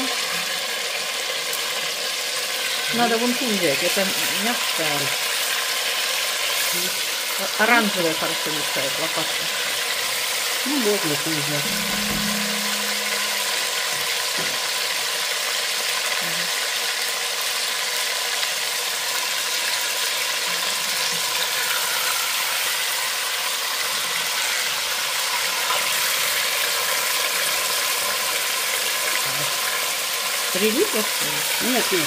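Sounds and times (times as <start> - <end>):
meat sizzling in hot oil: 0.0 - 32.0.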